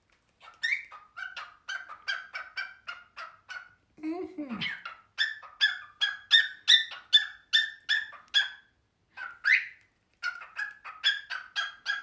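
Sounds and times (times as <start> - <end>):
cockatiel chirping: 0.4 - 3.8, 4.6 - 12.0.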